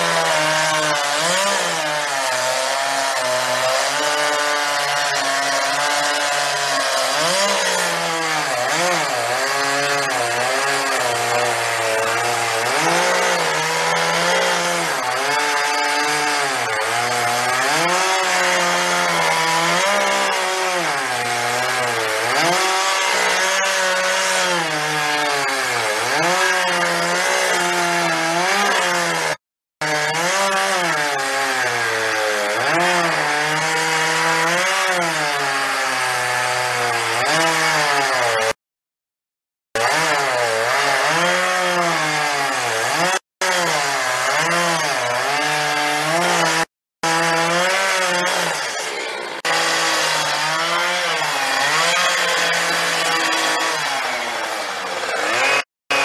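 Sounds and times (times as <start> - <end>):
chainsaw cutting a log: 0.0 - 38.6, 39.8 - 56.0.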